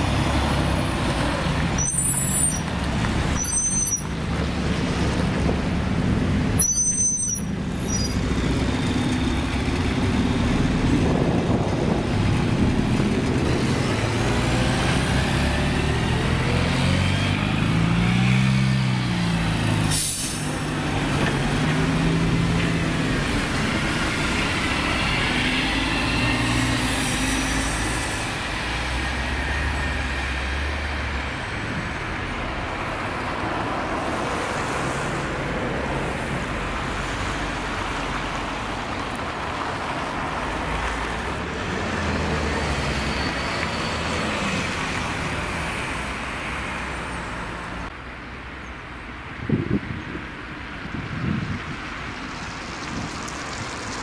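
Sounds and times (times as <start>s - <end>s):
bus engines idling: 0.0s - 16.8s, 19.0s - 48.2s
road noise: 0.0s - 54.0s.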